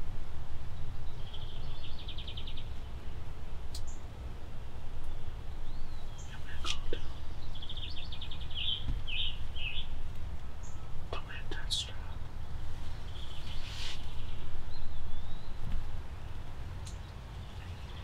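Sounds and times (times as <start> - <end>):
songbirds singing: 0.0 - 18.0
steady low rumble: 0.0 - 18.0.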